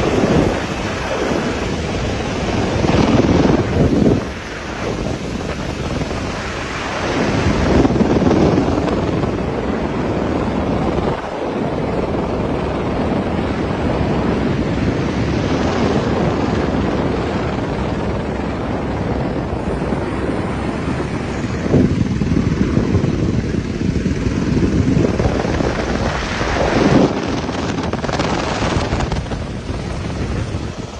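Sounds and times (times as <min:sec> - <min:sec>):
river churning water: 0:00.0 - 0:30.9
wind noise on microphone: 0:00.0 - 0:30.9.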